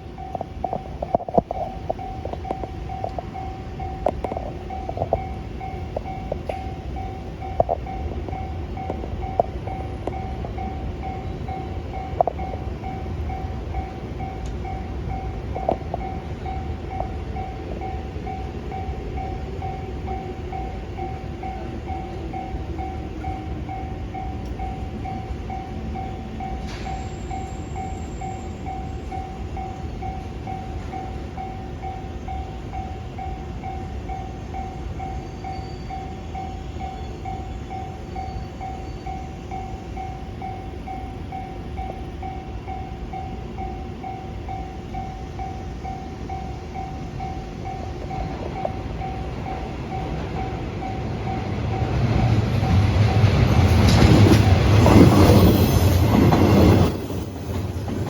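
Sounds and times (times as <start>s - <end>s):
electric train rumbling: 0.0s - 58.0s
wheels clacking on rails: 0.0s - 58.0s.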